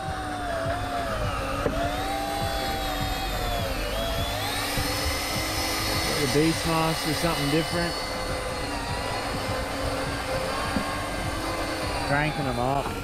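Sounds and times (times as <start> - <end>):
electric fishing reel motor whine: 0.0 - 13.0.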